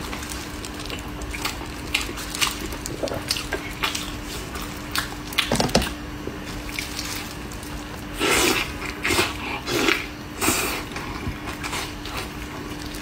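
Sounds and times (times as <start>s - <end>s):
person chewing and smacking: 0.0s - 13.0s.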